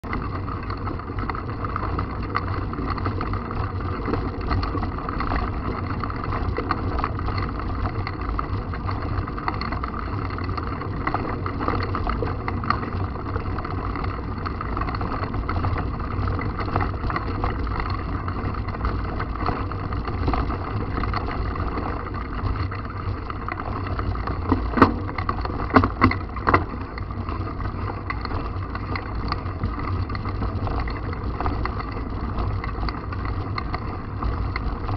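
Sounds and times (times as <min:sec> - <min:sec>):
bike tyres rumbling on dirt trail: 0:00.0 - 0:34.9
sharp knocks and rattles: 0:00.8 - 0:34.9.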